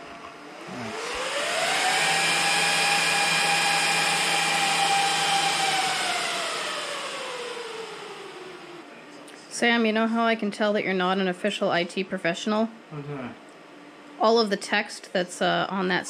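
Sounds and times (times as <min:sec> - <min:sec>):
cooling fans whining: 0:00.0 - 0:16.0.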